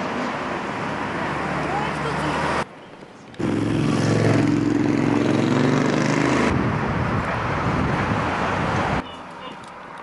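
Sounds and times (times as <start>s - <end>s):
traffic and road noise: 0.0s - 10.0s.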